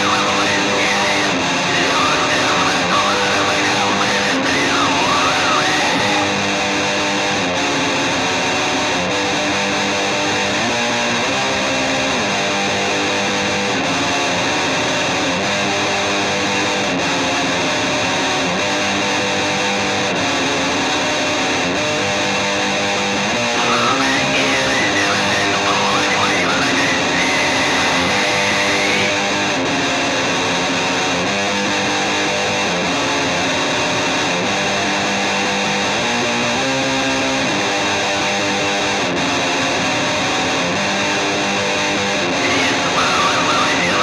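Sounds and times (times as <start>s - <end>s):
distorted guitar band music: 0.0s - 44.0s.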